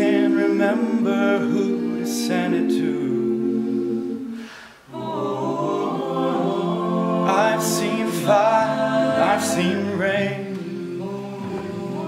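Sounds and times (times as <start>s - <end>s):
male a cappella group singing: 0.0s - 12.0s.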